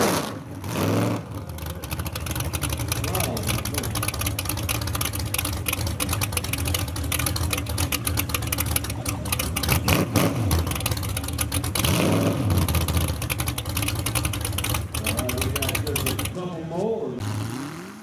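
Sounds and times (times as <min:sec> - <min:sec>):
engine idling: 0:00.4 - 0:17.1.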